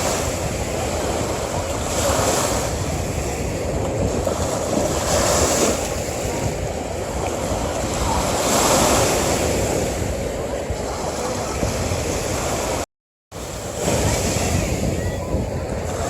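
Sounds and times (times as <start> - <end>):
ocean surf breaking on a beach: 0.0 - 12.8, 13.4 - 16.0.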